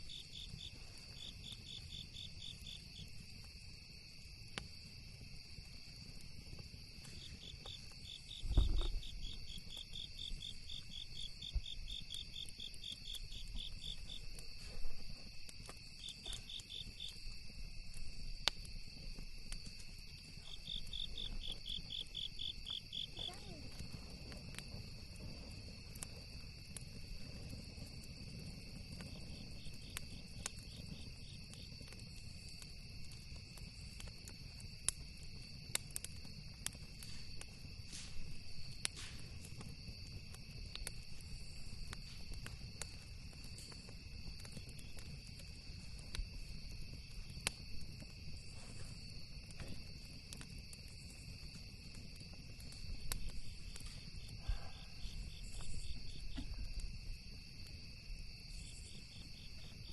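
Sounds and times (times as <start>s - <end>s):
campfire crackling and popping: 0.0s - 59.9s
crickets trilling: 0.0s - 59.9s.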